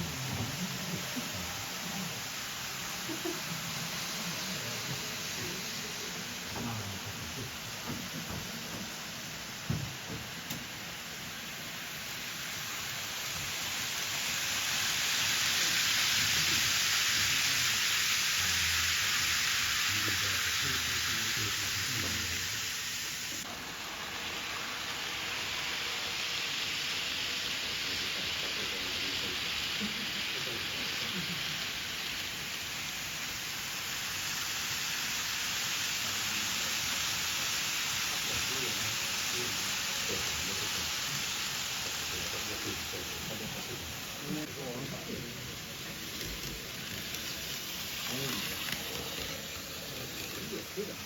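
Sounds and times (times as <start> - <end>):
model train running on track: 0.0 - 51.0.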